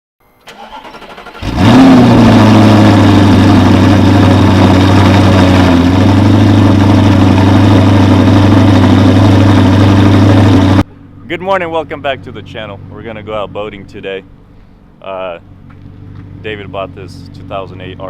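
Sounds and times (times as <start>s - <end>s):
car engine starting and idling: 0.2s - 18.0s.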